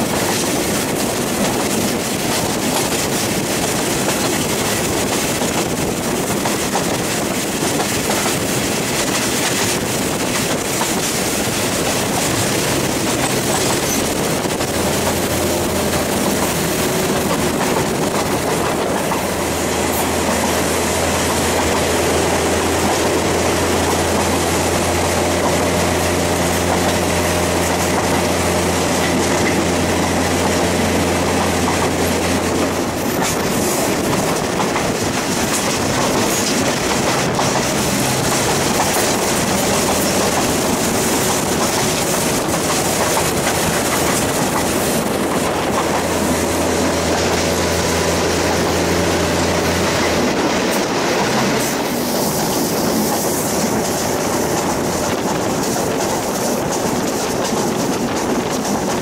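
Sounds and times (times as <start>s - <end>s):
train wheels rolling: 0.0s - 59.0s
wind noise: 0.0s - 59.0s.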